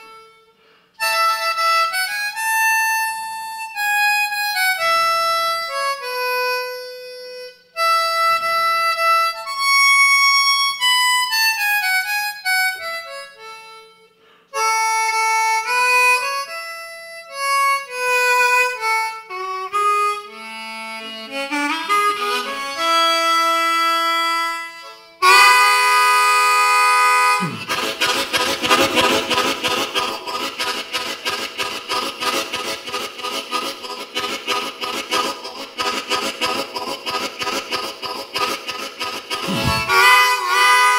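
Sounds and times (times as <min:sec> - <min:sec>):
blues harmonica: 0:00.0 - 0:40.9.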